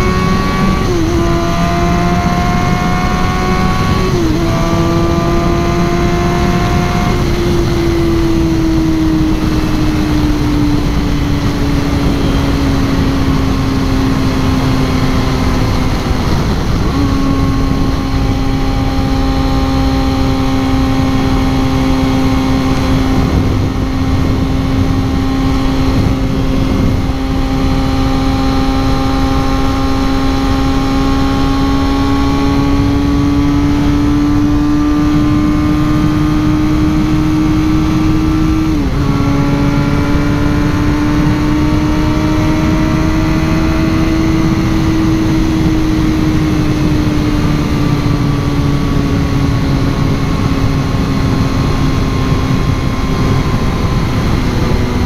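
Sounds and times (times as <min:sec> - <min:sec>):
heavy wind: 0:00.0 - 0:55.0
motorcycle engine cruising: 0:00.0 - 0:55.0
road rush: 0:00.0 - 0:55.0.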